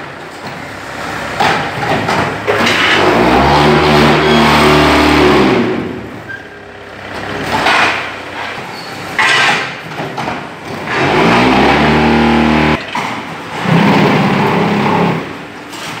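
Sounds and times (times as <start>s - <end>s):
block machine mechanical noise: 1.2s - 16.0s.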